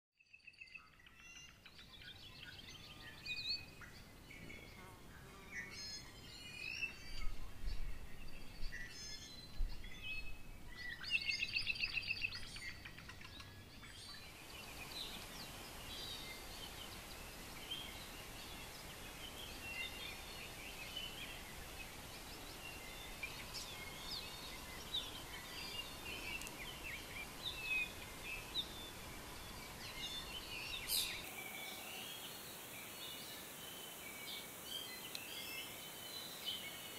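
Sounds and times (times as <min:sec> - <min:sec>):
birds chirping and singing: 0:00.5 - 0:36.9
steady hiss: 0:01.8 - 0:36.9.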